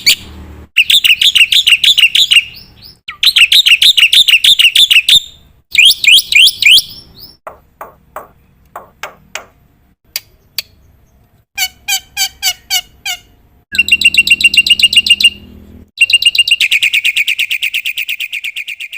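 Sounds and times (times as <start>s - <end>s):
myna bird singing: 0.0s - 9.6s, 10.2s - 18.9s.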